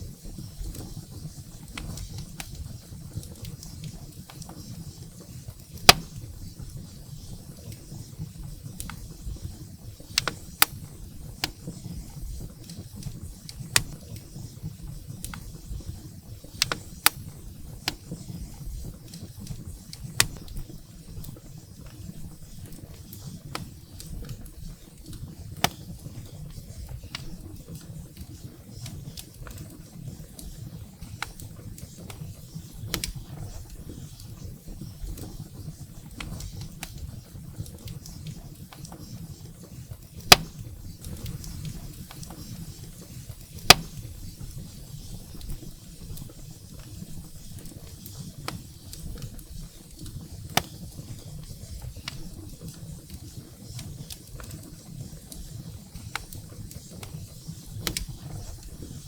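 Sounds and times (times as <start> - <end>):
firewood crackling and popping: 0.0 - 59.0
flames rumbling in fireplace: 0.0 - 59.0.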